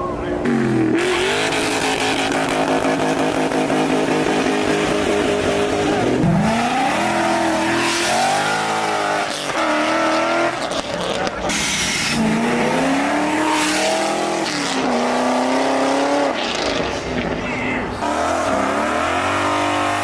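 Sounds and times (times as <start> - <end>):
car engine revving hard: 0.4 - 20.0.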